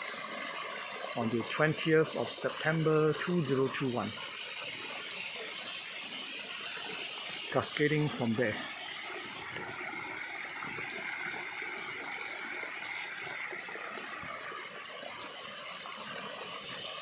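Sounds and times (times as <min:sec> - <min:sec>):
waterfall splashing into basin: 0:00.0 - 0:17.0.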